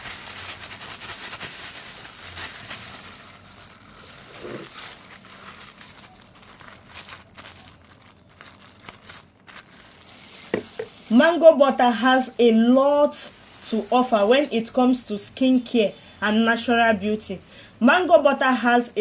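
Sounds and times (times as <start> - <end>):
packaging crinkling and rustling: 0.0 - 17.4.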